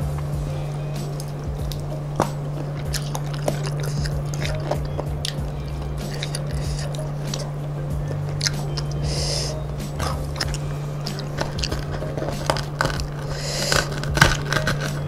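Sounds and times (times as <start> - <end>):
low hum: 0.0 - 15.0
chewing crunchy fried chicken: 1.2 - 15.0.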